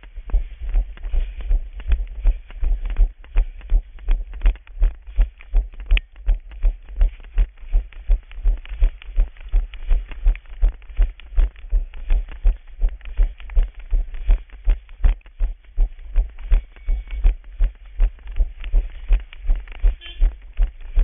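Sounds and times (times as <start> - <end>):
running footsteps on wet asphalt: 0.0 - 21.0.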